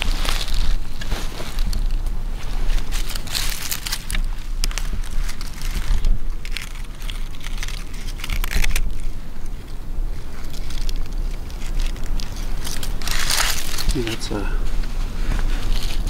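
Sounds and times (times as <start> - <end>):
leaves crunching underfoot: 0.0 - 16.0
steady low rumble: 0.0 - 16.0.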